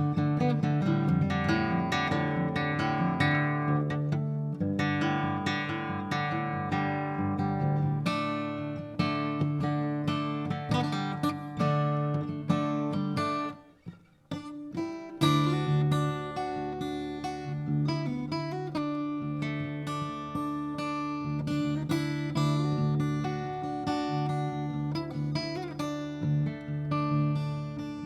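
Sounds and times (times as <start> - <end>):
acoustic guitar instrumental: 0.0 - 28.0.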